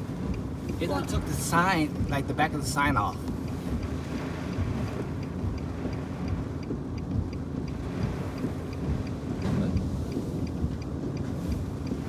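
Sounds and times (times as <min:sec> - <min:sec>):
faint steady ticking: 0:00.0 - 0:12.0.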